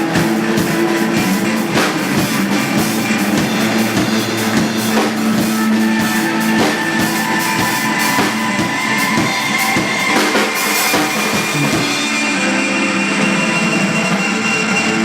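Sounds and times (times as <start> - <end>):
drum kit steady beat: 0.0 - 12.5
live band music: 0.0 - 15.0.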